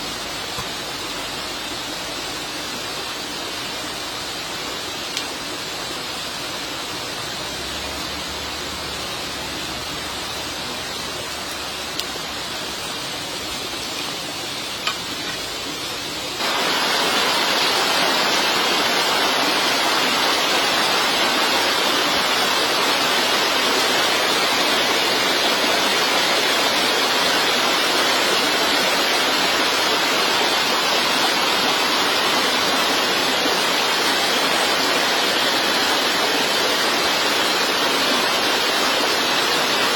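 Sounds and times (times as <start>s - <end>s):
rushing water or rain: 0.0s - 39.9s.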